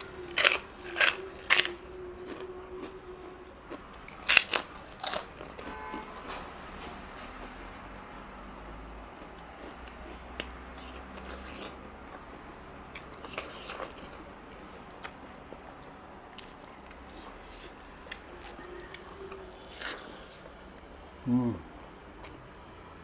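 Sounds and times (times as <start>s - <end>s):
person chewing: 0.0s - 20.8s, 21.7s - 22.4s
faint steady hum: 0.0s - 23.0s.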